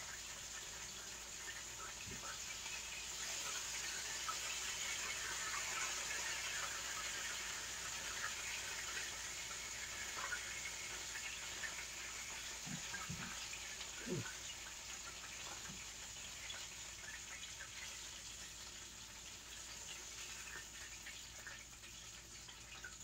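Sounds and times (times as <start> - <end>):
chicken frying in hot oil: 0.0 - 23.0.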